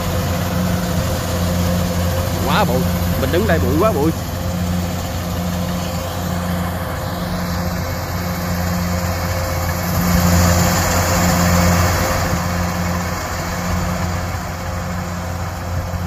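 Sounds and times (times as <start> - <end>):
diesel engine hum: 0.0 - 16.0.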